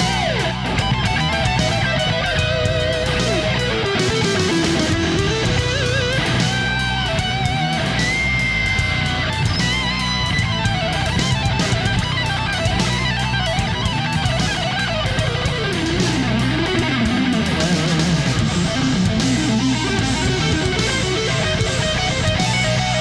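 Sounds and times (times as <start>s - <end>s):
rock music with electric guitar: 0.0s - 23.0s.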